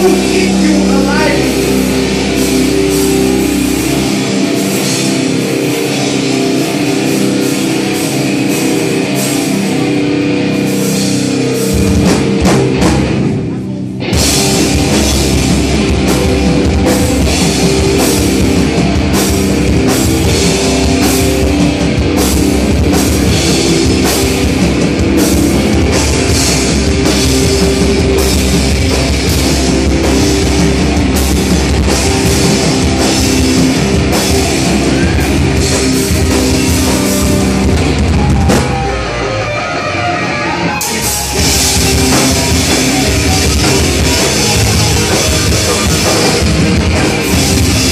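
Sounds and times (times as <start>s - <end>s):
drum kit with cymbal hits: 0.0s - 39.6s, 40.4s - 47.9s
bass guitar: 0.0s - 47.9s
distorted electric guitars: 0.0s - 47.9s.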